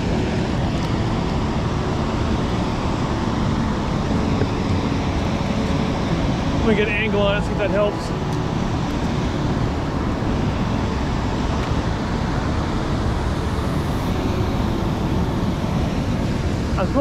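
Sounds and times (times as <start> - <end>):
fast river current: 0.0 - 17.0.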